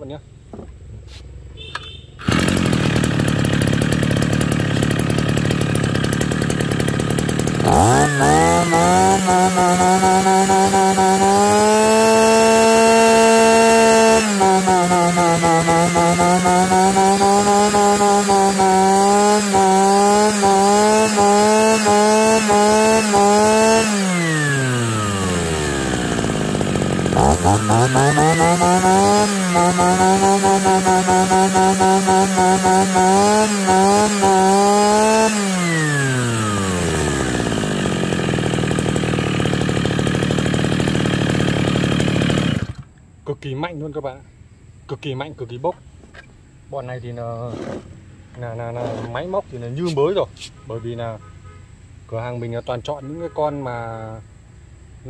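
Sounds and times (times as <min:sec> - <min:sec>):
brush cutter engine revving: 0:00.5 - 0:43.0, 0:47.3 - 0:50.1.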